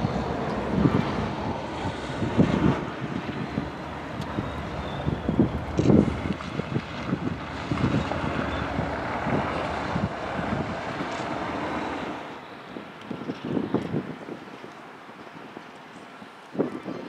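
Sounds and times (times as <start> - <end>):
distant freight train rumble: 0.0 - 16.4
wind buffeting microphone: 0.0 - 17.0.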